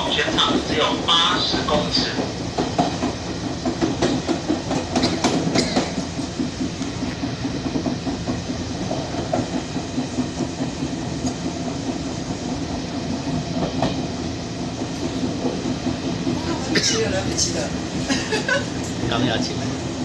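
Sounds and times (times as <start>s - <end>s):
train running rumble: 0.0s - 20.0s
train wheels clicking over rail joints: 0.0s - 20.0s.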